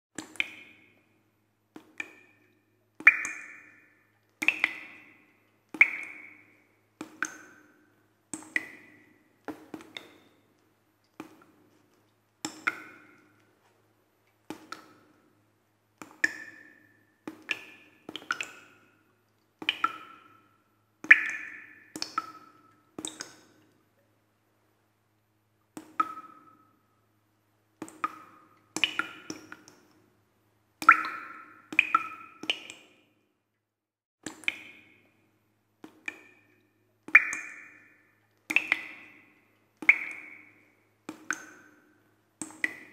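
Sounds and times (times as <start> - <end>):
water drops plinking into water: 0.2 - 11.7, 12.4 - 13.5, 14.3 - 15.3, 16.0 - 24.1, 25.6 - 26.8, 27.8 - 30.0, 30.8 - 33.0, 34.2 - 35.2, 35.8 - 42.9.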